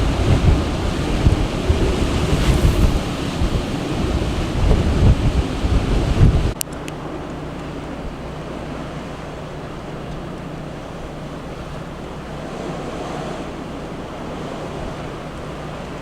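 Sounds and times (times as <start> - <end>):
blizzard wind: 0.0 - 16.0
ocean surf: 0.0 - 16.0.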